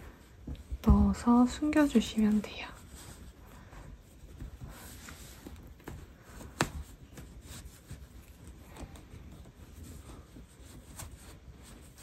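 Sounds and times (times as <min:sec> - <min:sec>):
fabric yarn rubbing and rustling: 0:00.0 - 0:12.0.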